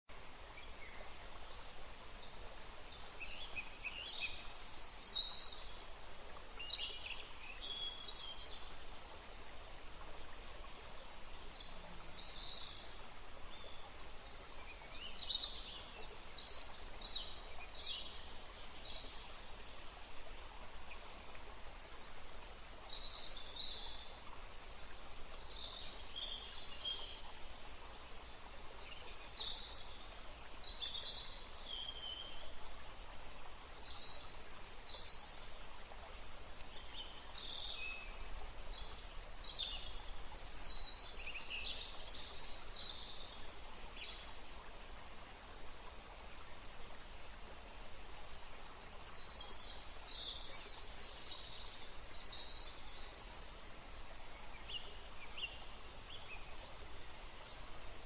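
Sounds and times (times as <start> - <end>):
river water flowing: 0.1 - 58.0.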